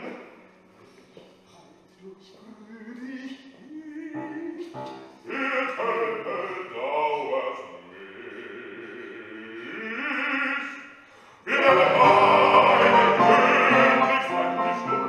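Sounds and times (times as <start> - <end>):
operatic singing: 2.0 - 15.0.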